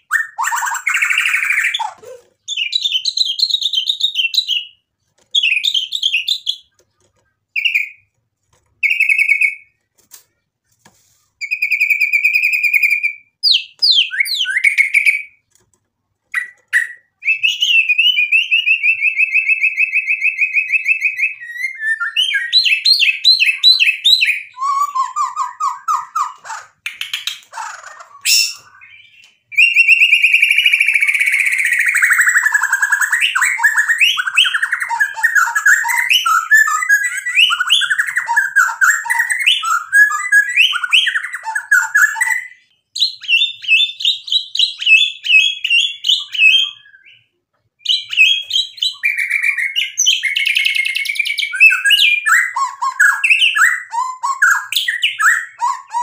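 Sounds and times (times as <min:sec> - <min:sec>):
songbird singing trills and whistles: 0:00.0 - 0:04.8, 0:05.4 - 0:06.8, 0:07.5 - 0:08.1, 0:08.8 - 0:09.7, 0:11.4 - 0:15.4, 0:16.3 - 0:56.0.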